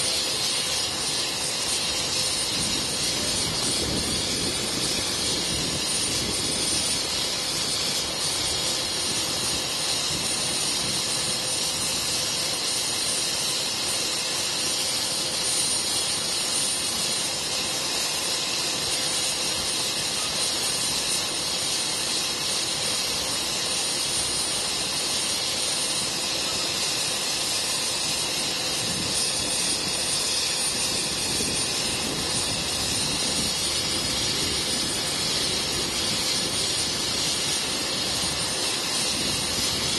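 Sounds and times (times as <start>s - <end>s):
helicopter engine whining: 0.0s - 39.9s.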